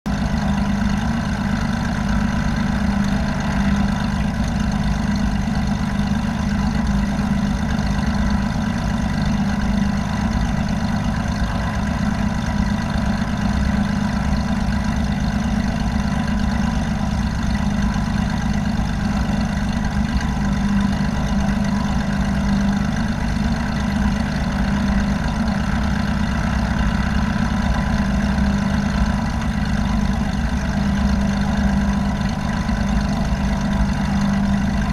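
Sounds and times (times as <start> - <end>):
light aircraft engine drone: 0.1 - 34.9.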